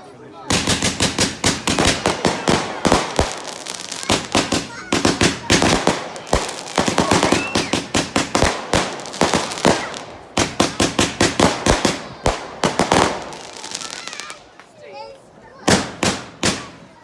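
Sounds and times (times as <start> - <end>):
fireworks banging and crackling: 0.4 - 17.0.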